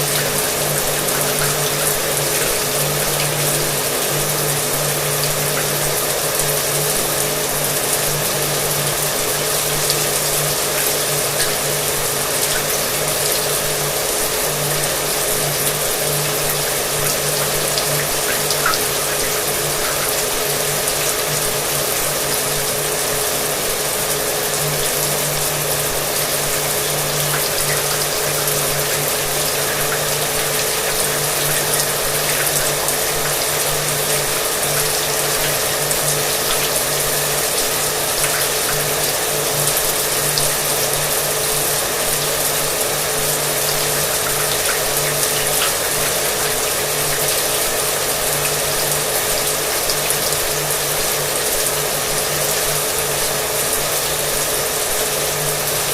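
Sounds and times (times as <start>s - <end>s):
shower water spraying: 0.0s - 55.9s.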